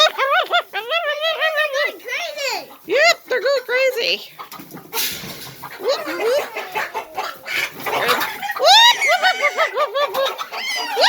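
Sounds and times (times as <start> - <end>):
chickens squawking and cackling: 0.0 - 11.0.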